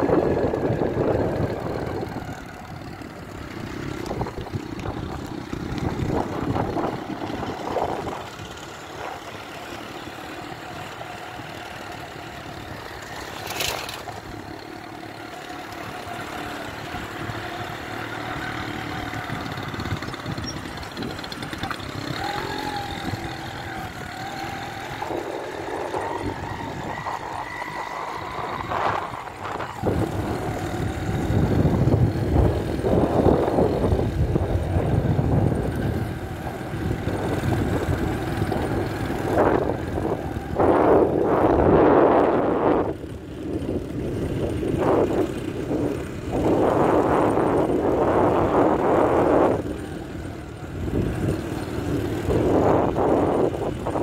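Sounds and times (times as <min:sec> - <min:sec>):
rushing wind noise: 0:00.0 - 0:10.0, 0:16.3 - 0:54.0
motorcycle engine running: 0:00.0 - 0:54.0.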